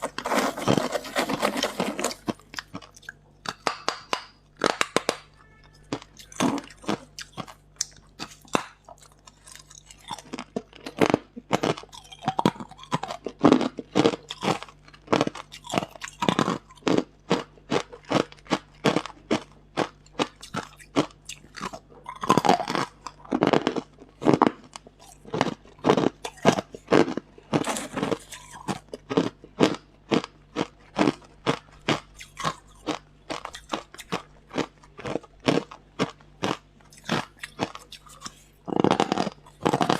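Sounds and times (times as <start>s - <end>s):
ice cubes crunching being chewed: 0.0s - 39.9s.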